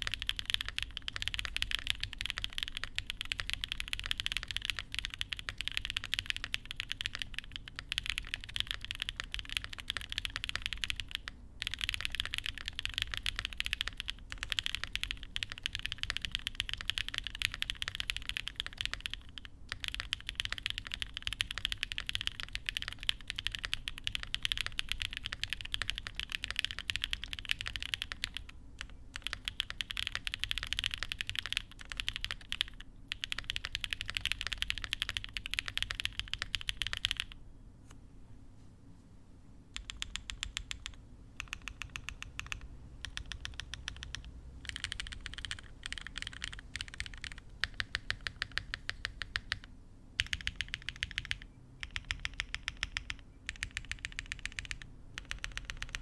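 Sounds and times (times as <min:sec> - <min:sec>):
mechanical keyboard typing: 0:00.0 - 0:37.4, 0:39.8 - 0:56.0.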